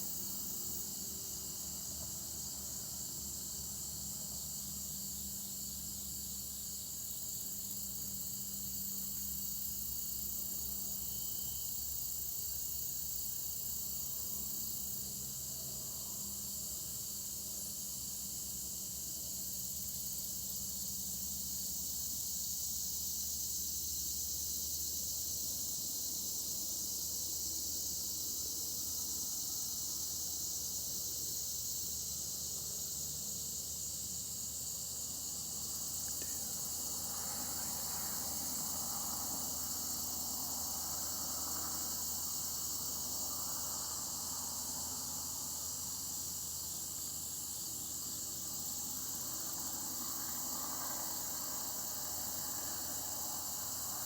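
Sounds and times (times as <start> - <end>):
crickets and insects trilling: 0.0 - 54.0.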